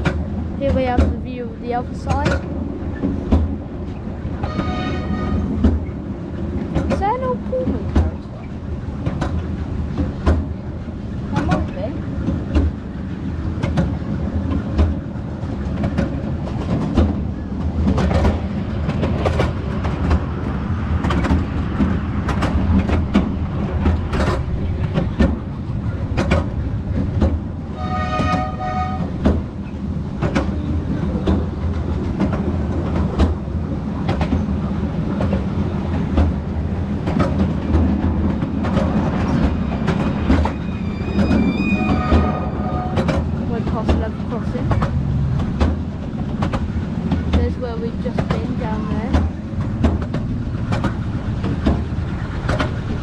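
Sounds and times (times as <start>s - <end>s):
miniature train rumbling: 0.0s - 53.0s
wheels clicking over rail joints: 0.0s - 53.0s.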